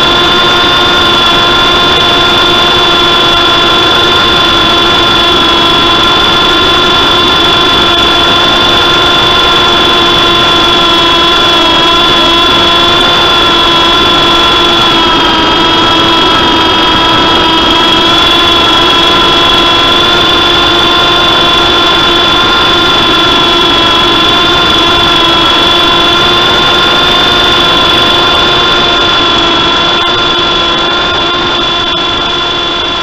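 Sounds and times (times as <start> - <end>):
rc helicopter motor whining: 0.0 - 33.0.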